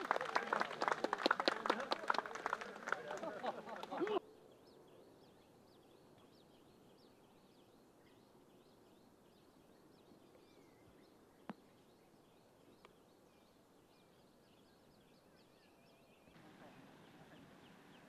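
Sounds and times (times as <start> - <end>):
birds chirping: 2.4 - 18.0.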